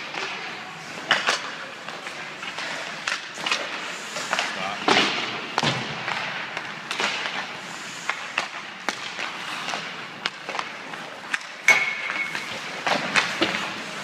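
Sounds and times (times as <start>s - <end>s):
hockey pucks and sticks clacking: 0.0s - 14.0s.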